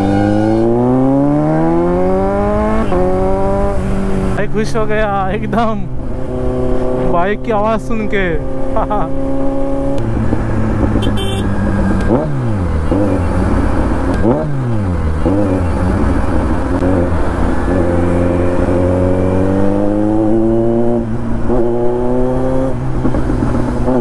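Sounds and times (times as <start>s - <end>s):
motorcycle accelerating: 0.0s - 24.0s
motorcycle engine revving: 0.0s - 24.0s.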